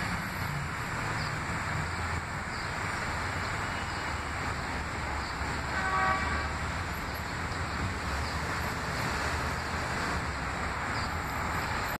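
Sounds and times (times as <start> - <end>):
distant train rumbling: 0.0 - 11.9.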